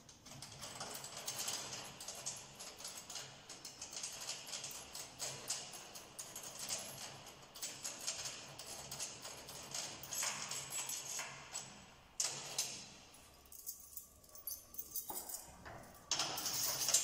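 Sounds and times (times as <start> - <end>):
small metallic clicks and rattles: 0.0 - 17.0.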